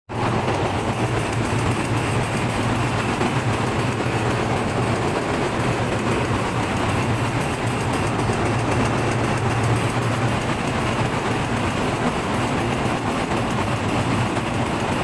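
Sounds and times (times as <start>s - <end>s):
engine room machinery humming: 0.1s - 15.0s
rushing machinery noise: 0.1s - 15.0s.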